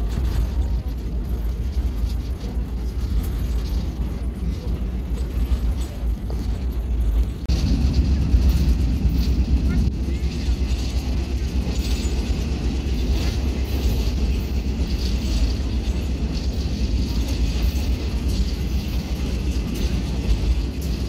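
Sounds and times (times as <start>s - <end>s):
moving train rumble: 0.0s - 21.0s.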